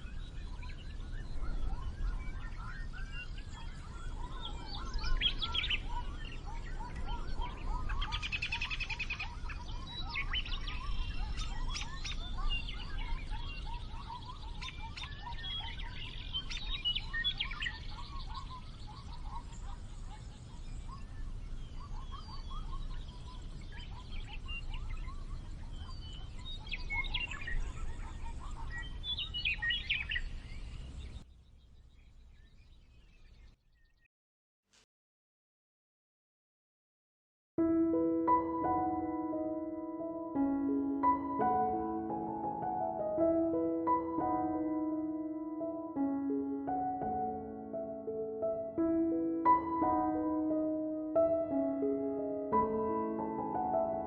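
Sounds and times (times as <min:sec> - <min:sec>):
birds chirping and whistling: 0:00.0 - 0:34.1, 0:38.2 - 0:54.0.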